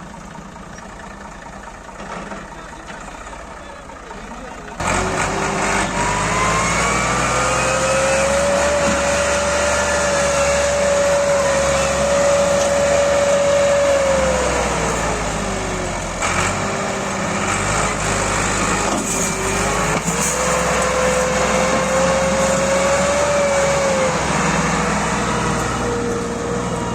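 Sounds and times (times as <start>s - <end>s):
tractor diesel engine revving: 0.0s - 26.9s.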